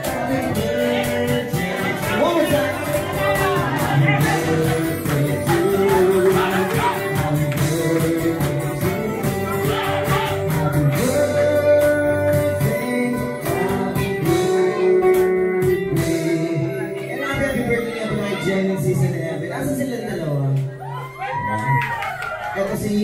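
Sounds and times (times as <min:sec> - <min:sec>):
cajon beat: 0:00.0 - 0:19.2
man singing: 0:00.0 - 0:19.6
strummed acoustic guitars: 0:00.0 - 0:20.1.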